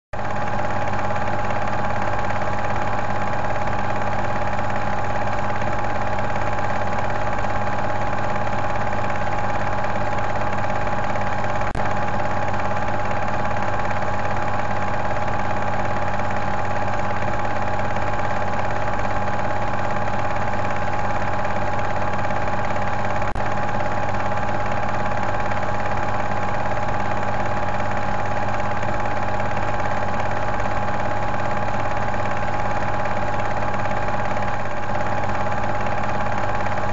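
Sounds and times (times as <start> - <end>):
film projector whirring and clattering: 0.2 - 36.9.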